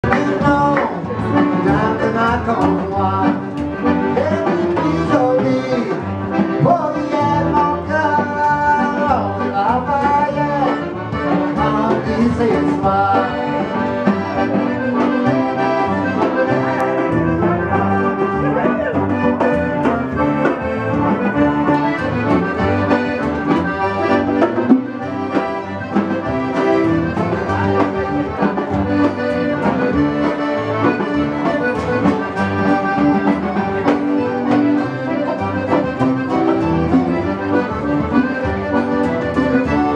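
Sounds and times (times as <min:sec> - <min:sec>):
accordion: 0:00.0 - 0:39.9
fiddle: 0:00.0 - 0:39.9
upright bass: 0:00.0 - 0:39.9.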